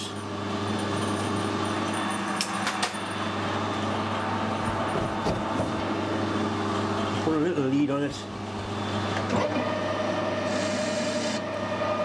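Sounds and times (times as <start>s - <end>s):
workshop machinery hum: 0.0s - 12.0s.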